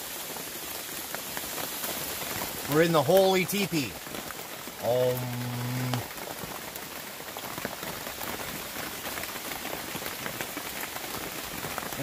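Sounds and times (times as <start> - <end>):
rain pattering on plastic tarp: 0.0 - 12.0.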